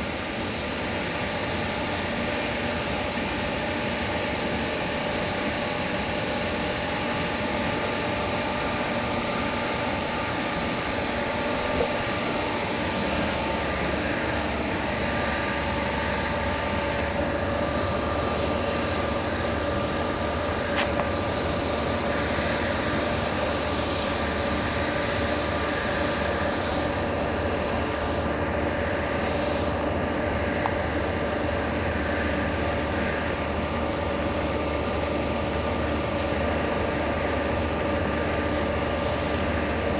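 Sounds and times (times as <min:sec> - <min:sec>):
lathe machine rumble and whine: 0:00.0 - 0:39.9.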